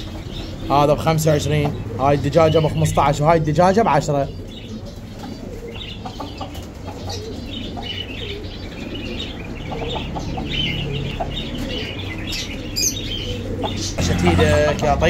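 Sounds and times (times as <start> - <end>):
chickens clucking: 0.0 - 15.0
small birds chirping: 0.0 - 15.0.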